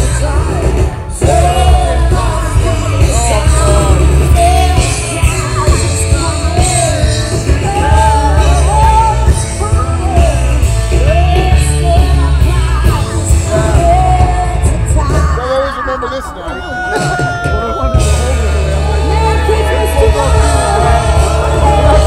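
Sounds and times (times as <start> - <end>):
lead singer singing: 0.0 - 22.0
live band playing: 0.0 - 22.0.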